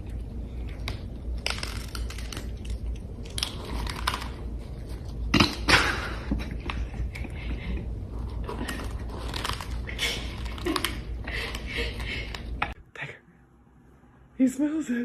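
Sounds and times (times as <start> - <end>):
cats crunching dry kibble: 0.0 - 12.8.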